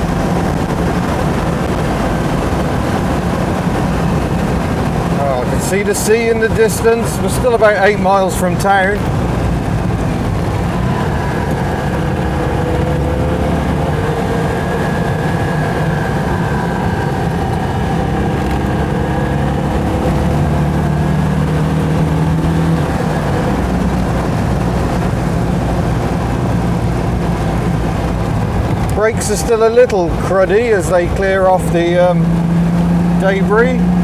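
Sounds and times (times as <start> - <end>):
car engine running: 0.0 - 34.0
wind noise: 0.0 - 34.0.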